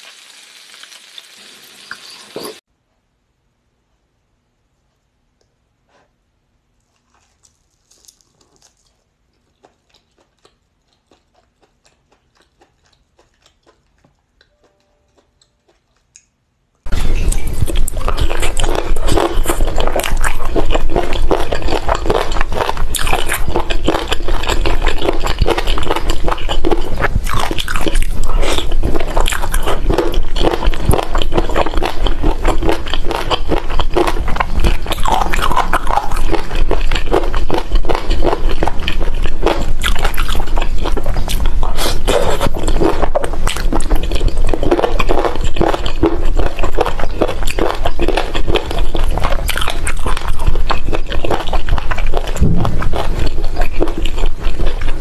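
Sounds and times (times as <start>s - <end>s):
wet chewing: 6.8s - 55.0s.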